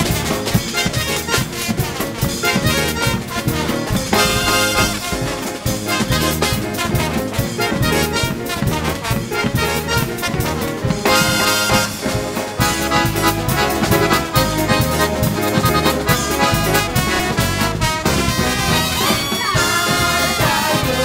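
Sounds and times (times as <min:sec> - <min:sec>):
brass band playing: 0:00.0 - 0:21.0
drums: 0:00.0 - 0:21.0
trombones: 0:00.0 - 0:21.0
trumpets: 0:00.0 - 0:21.0.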